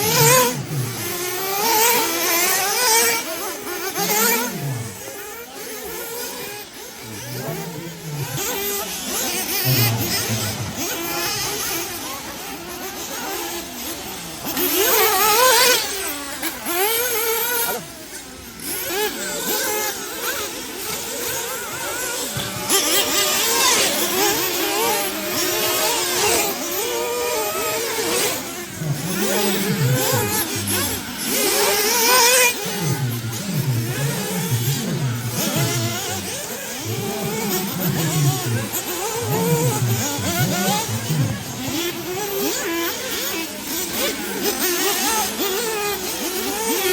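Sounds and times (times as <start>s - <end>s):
model buggy engines revving: 0.0s - 46.9s.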